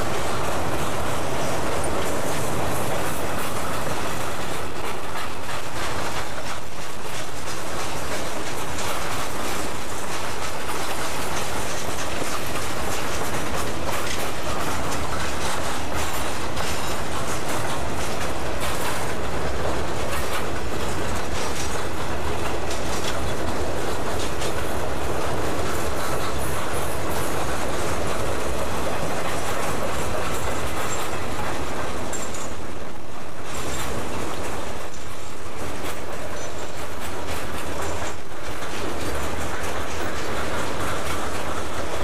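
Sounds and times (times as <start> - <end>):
freight train wheels rumbling on rail: 0.0 - 42.0
wheels clicking over rail joints: 0.0 - 42.0.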